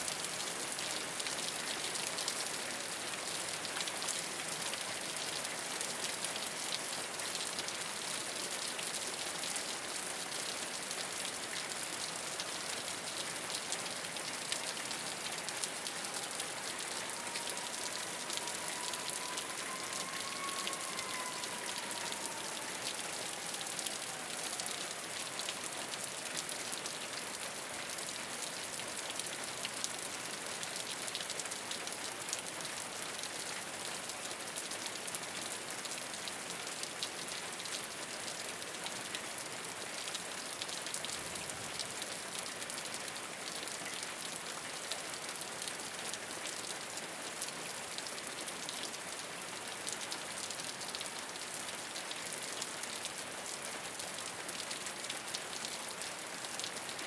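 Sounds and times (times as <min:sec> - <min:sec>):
rain on a rooftop: 0:00.0 - 0:57.0.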